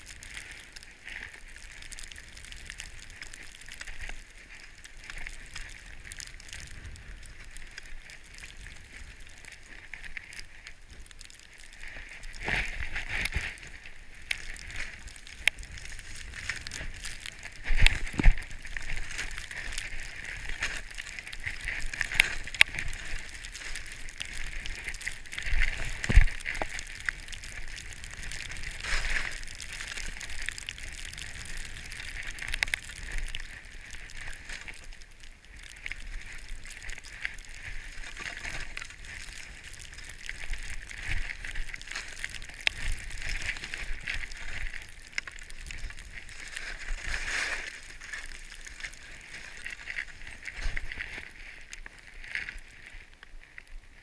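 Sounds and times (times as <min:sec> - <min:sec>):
ski clicks and knocks: 0:00.0 - 0:53.4
skis scraping through snow: 0:00.0 - 0:53.9.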